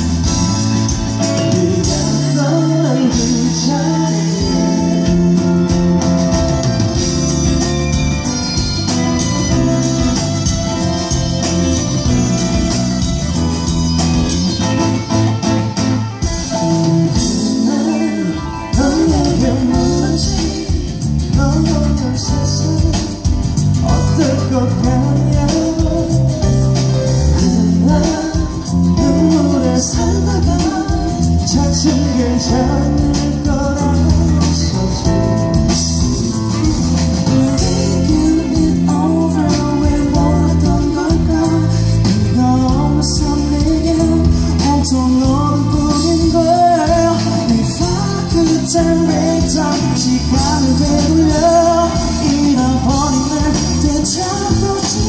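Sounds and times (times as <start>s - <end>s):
person singing lead vocals: 0.0s - 7.4s, 16.5s - 55.0s
live rock band playing: 0.0s - 55.0s.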